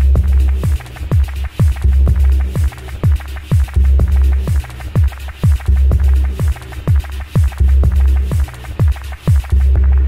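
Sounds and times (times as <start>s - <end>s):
electronic music: 0.0s - 10.0s
kick drum beat: 0.0s - 10.0s.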